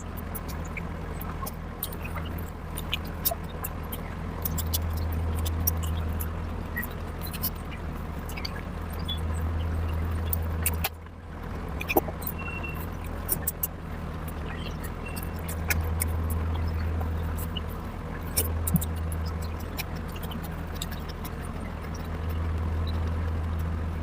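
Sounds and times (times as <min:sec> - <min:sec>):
person chewing food: 0:00.0 - 0:23.8
low hum: 0:00.0 - 0:24.0.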